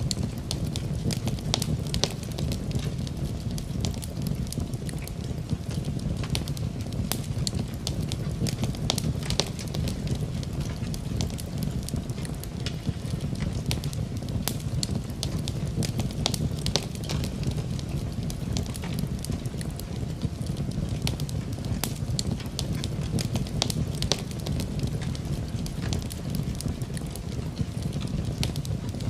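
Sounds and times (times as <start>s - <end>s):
rain: 0.0s - 29.0s
wood fire crackling: 0.0s - 29.0s.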